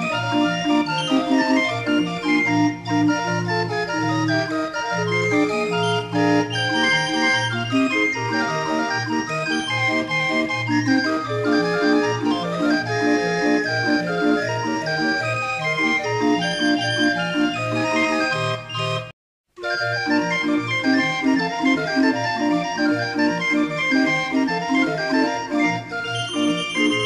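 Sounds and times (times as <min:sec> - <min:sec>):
barrel organ playing a tune: 0:00.0 - 0:27.0.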